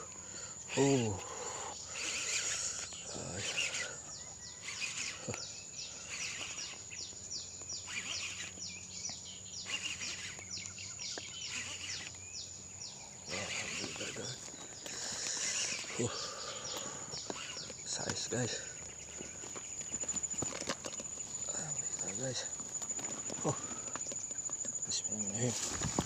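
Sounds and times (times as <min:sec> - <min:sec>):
bird chirping: 0:00.0 - 0:26.0
high-pitched insect drone: 0:00.0 - 0:26.0.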